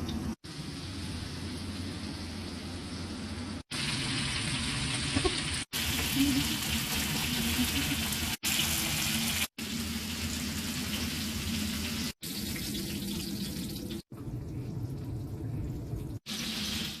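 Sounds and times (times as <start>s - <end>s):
steady hissing kitchen noise: 0.0s - 17.0s.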